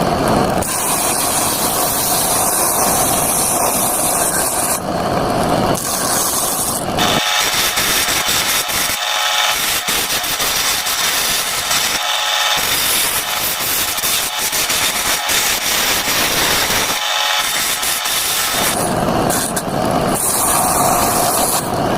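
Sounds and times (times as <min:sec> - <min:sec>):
saw rasping through wood: 0:00.0 - 0:04.9, 0:05.7 - 0:21.9.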